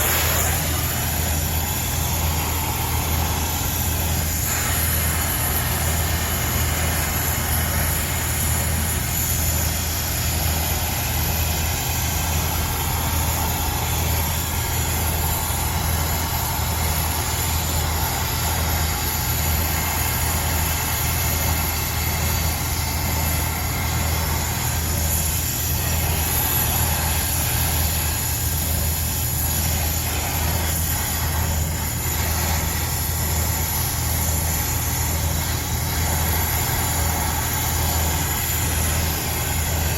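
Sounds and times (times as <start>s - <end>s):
low mechanical motor hum: 0.0s - 39.9s.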